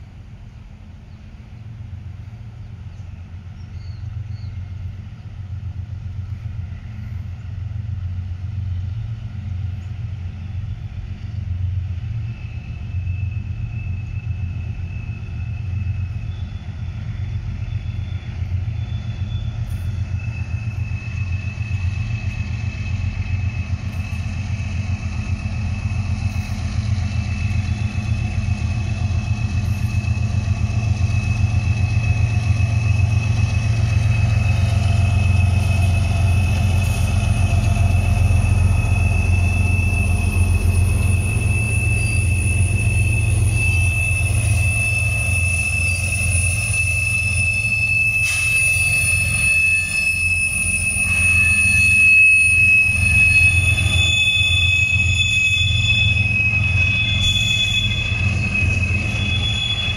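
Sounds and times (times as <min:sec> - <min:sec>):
locomotive engines rumbling: 0:00.0 - 0:59.9
steady high whine: 0:00.0 - 0:59.9.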